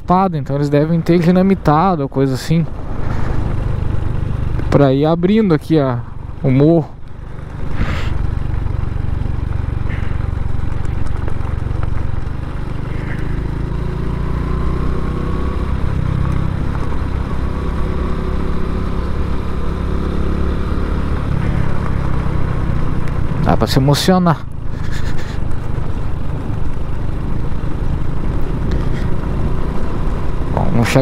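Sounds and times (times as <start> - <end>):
motorcycle engine running uphill: 0.0 - 31.0.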